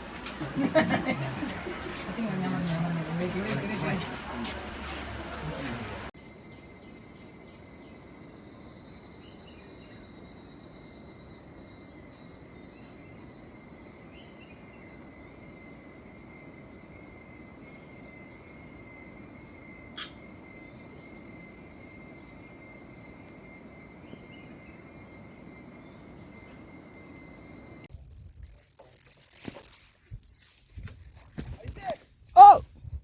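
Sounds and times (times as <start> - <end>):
insects trilling: 6.2 - 33.0.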